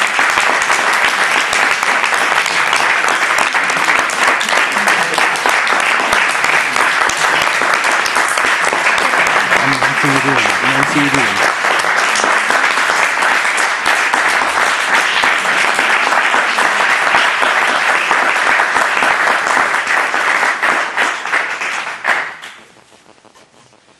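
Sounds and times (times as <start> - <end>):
audience applauding: 0.0 - 23.9.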